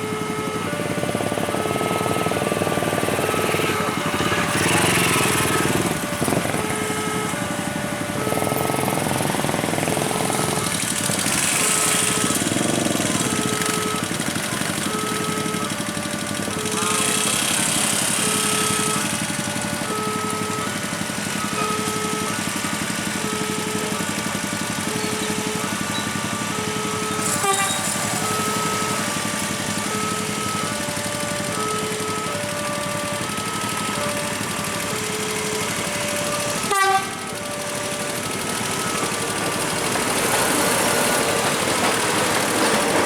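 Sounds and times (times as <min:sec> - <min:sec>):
idling vehicle engines: 0:00.0 - 0:43.0
level-crossing two-tone alarm: 0:00.0 - 0:43.0.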